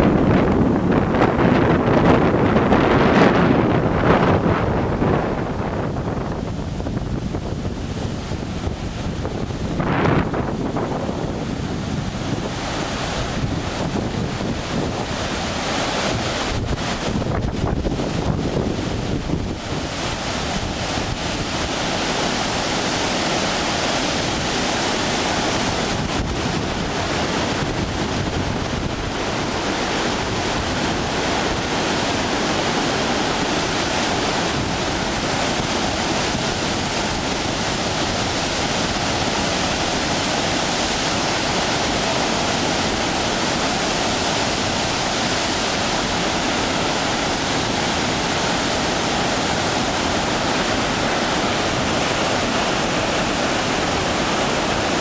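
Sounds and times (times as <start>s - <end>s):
rushing floodwater: 0.0s - 55.0s
wind gusts on microphone: 0.0s - 55.0s.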